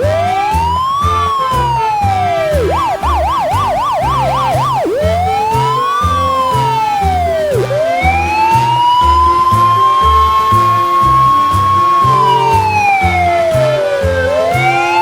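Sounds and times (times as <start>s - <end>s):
backing tune with steady beat: 0.0s - 15.0s
emergency vehicle siren: 0.0s - 15.0s.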